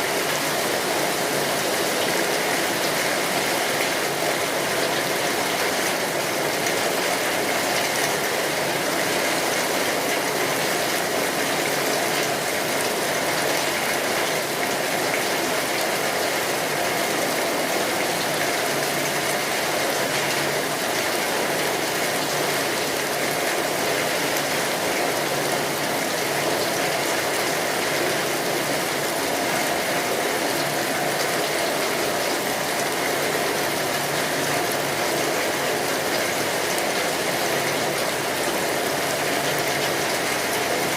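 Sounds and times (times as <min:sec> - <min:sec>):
rain drumming on a tin roof: 0:00.0 - 0:40.9.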